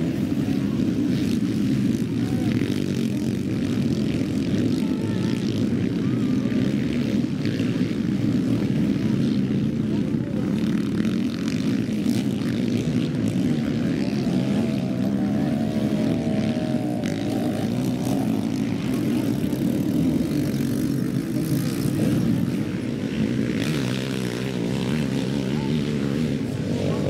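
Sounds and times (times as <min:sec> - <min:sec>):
motocross engines revving: 0:00.0 - 0:27.0.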